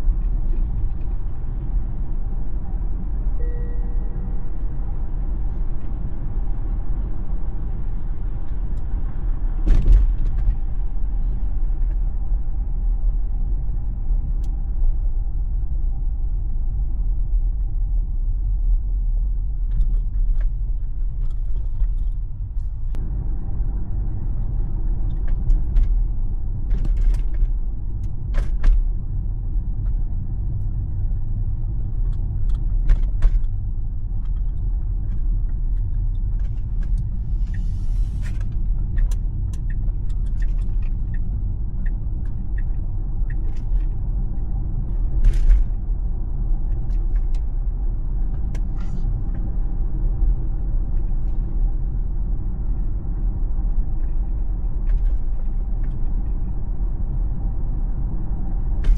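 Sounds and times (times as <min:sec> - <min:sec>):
road and tyre rumble in car: 0:00.0 - 0:58.9.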